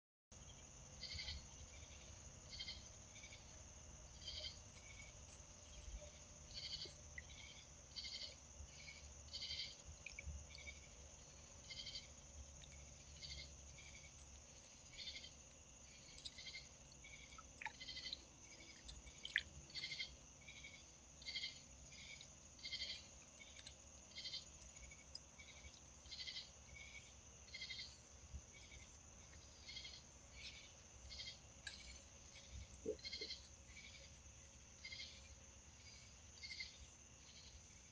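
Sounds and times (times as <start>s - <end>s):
insects chirping: 0.3s - 37.9s.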